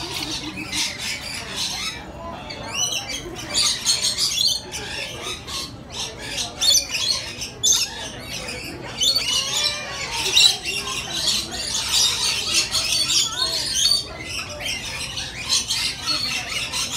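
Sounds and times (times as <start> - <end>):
parrots screeching and chattering: 0.0 - 16.9.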